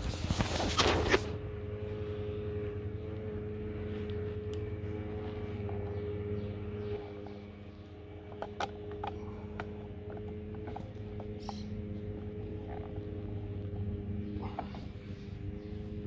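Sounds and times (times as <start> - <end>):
handling clatter and rubbing: 0.0 - 1.4, 3.8 - 16.0
mechanical drone with low hum: 0.0 - 16.0.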